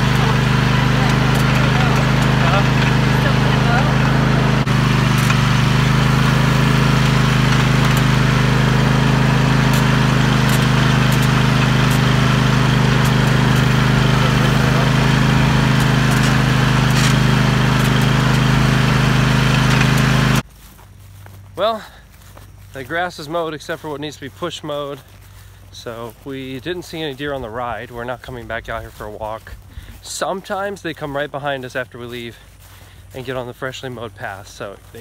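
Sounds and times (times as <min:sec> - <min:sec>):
riding lawn mower engine: 0:00.0 - 0:35.0.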